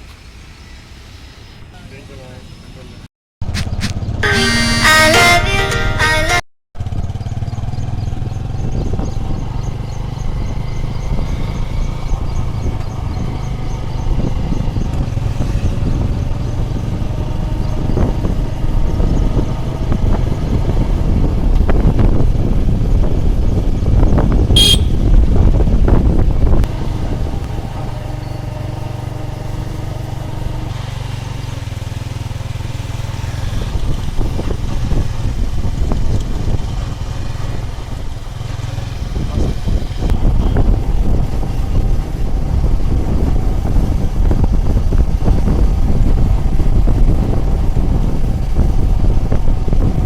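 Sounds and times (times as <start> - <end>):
motor vehicle rumbling: 0.0 - 50.0.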